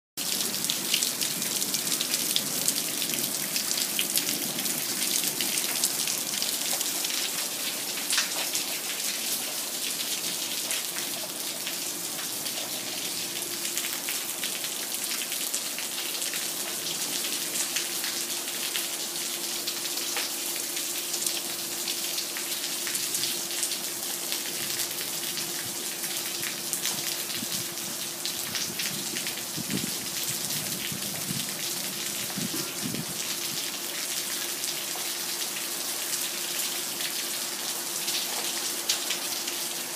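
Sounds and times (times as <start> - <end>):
heavy rain falling: 0.2 - 39.9.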